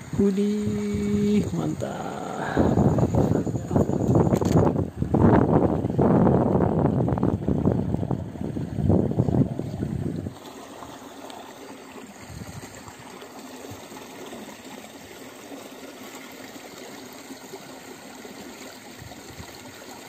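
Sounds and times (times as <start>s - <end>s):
trickle of running water: 0.0s - 20.0s.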